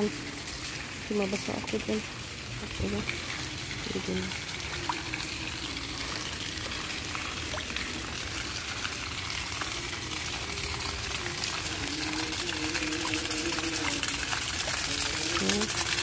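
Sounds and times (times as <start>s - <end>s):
rain hitting standing water: 0.0s - 16.0s.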